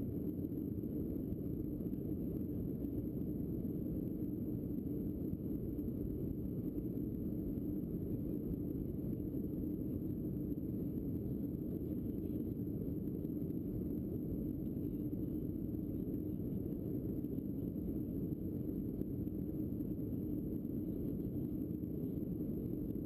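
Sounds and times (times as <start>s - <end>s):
jet engine rumble in cabin: 0.0s - 23.0s.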